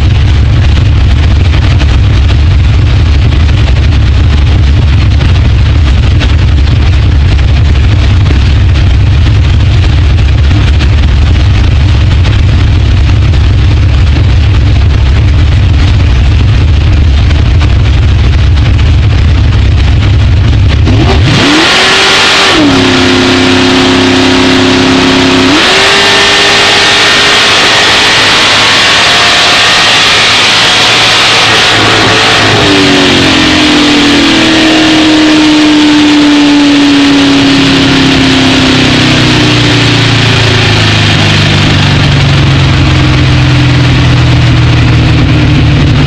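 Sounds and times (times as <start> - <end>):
drag car engine revving: 0.0 - 46.0.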